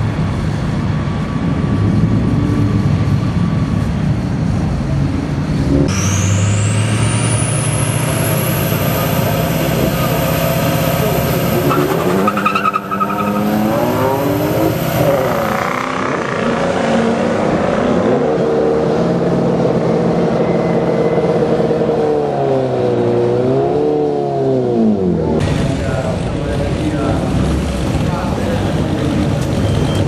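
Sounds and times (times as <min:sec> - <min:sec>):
truck engines revving: 0:00.0 - 0:30.0.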